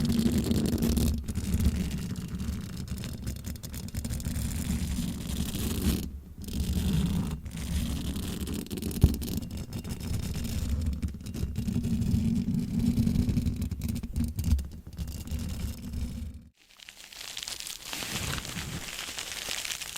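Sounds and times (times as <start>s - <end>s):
scratching on microphone: 0.0s - 19.9s.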